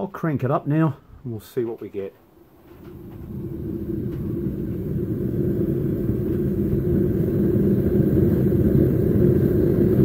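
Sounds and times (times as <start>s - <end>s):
gas burner rushing: 1.7s - 10.0s.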